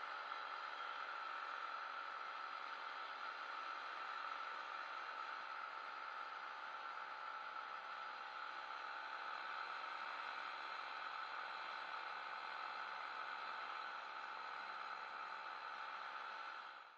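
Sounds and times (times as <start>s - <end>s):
paraglider engine and propeller drone: 0.0s - 16.9s.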